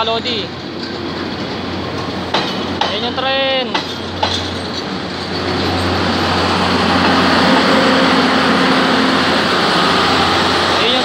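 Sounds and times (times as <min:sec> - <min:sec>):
passenger train rolling past: 0:00.0 - 0:11.0.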